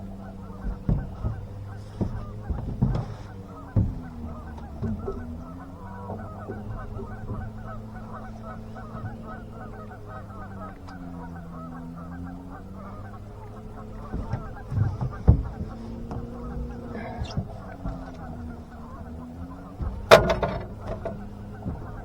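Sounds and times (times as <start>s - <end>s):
geese honking: 0.0s - 22.0s
steady low hum: 0.0s - 22.0s.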